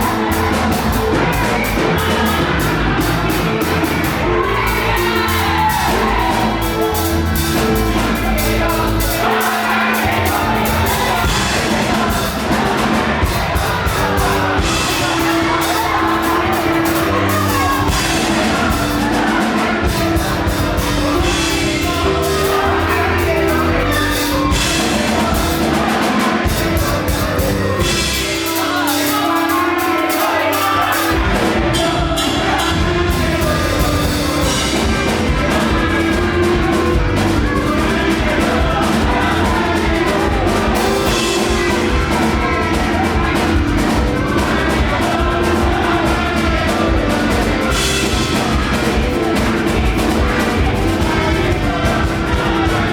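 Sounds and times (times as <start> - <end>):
band playing fast groove: 0.0 - 52.9
singing: 0.0 - 52.9.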